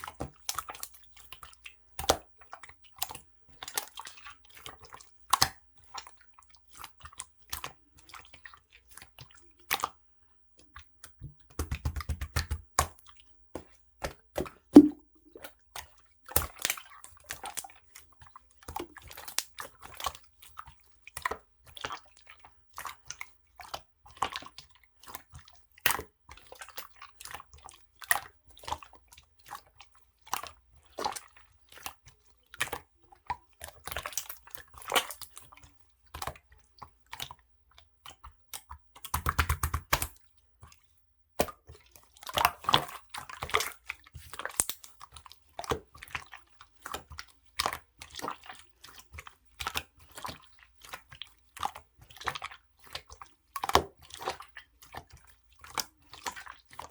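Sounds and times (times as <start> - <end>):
slime squishing with wet pops: 0.0 - 10.0, 10.6 - 56.9.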